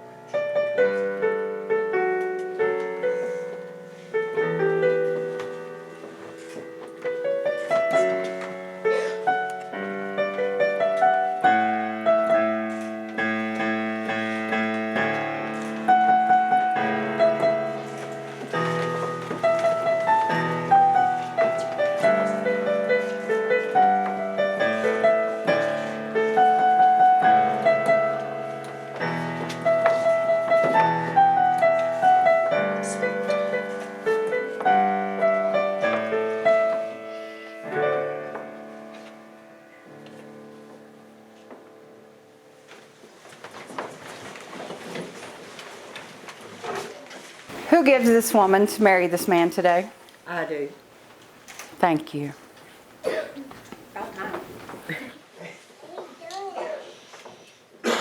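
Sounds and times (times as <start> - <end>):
slow piano piece: 0.0 - 58.0.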